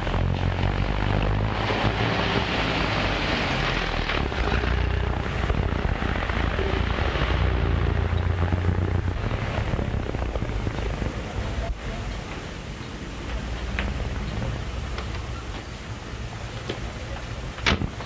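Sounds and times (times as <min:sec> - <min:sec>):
car engine rumbling: 0:00.0 - 0:18.0
street traffic: 0:00.0 - 0:18.0.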